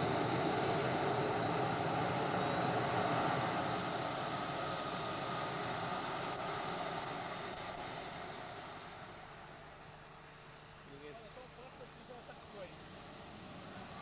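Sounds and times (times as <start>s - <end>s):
jet engines hissing and whining: 0.0s - 14.0s.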